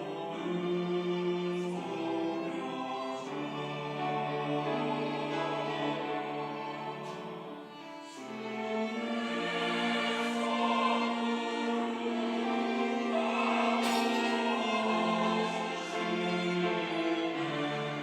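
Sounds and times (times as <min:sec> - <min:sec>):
church choir singing held chords: 0:00.0 - 0:18.0.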